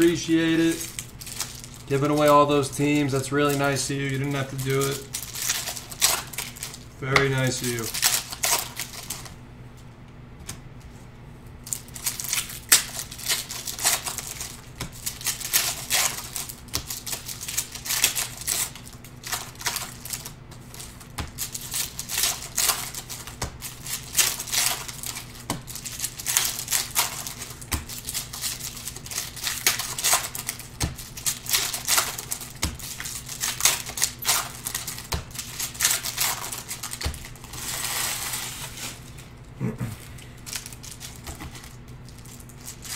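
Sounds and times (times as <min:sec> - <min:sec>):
foil wrappers crinkling and tearing: 0:00.0 - 0:09.4, 0:11.6 - 0:39.5, 0:40.1 - 0:42.9.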